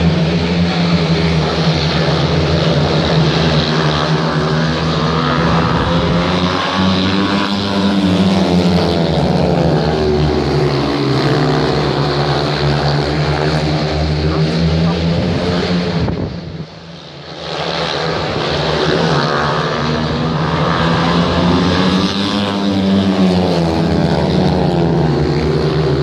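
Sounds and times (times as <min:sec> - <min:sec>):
motorcycles racing at high revs: 0:00.0 - 0:26.0.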